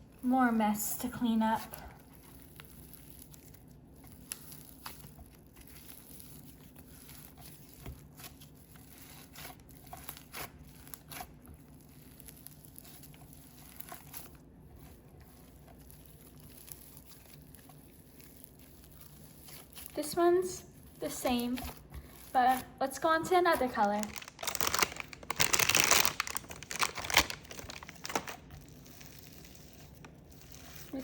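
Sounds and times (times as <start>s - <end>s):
slime crackling and popping: 0.8s - 31.0s.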